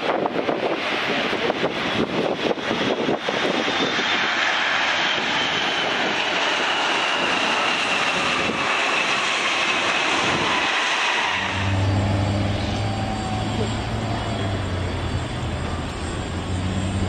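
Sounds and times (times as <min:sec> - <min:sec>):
jet engines rushing and whining: 0:00.0 - 0:17.0.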